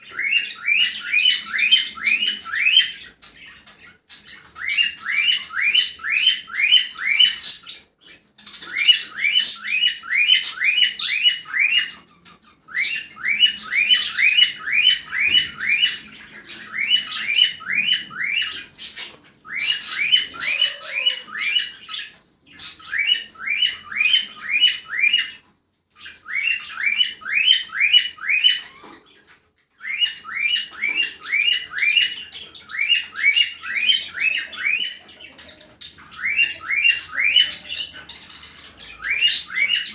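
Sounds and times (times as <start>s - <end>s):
cockatiels squawky chirps: 0.0s - 39.9s.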